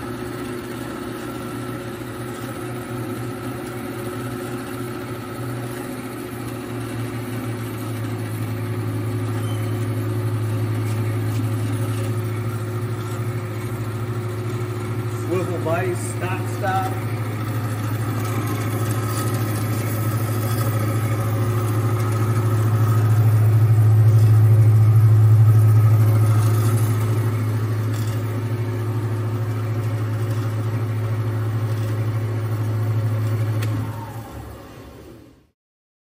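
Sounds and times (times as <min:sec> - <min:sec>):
band saw motor humming: 0:00.0 - 0:35.4
saw winding down: 0:03.1 - 0:35.2.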